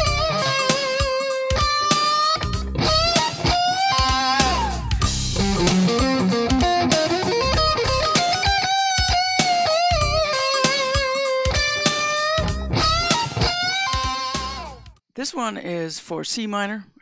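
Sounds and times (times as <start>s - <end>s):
electric guitar blues lick: 0.0s - 14.9s.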